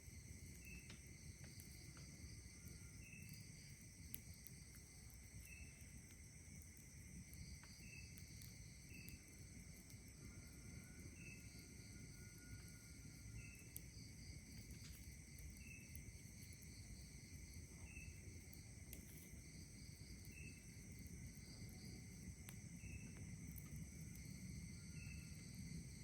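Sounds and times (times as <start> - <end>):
campfire crackling: 0.0 - 26.0
crickets trilling: 0.0 - 26.0.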